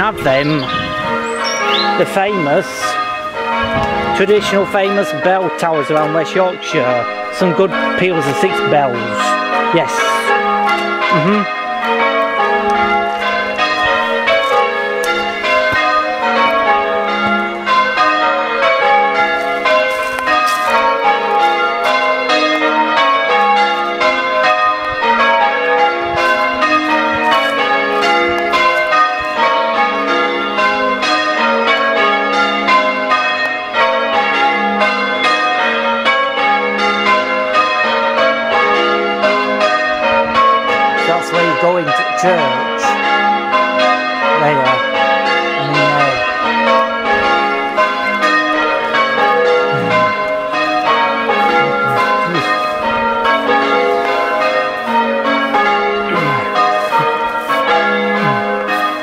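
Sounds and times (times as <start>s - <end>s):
church bells change-ringing: 0.0s - 59.0s.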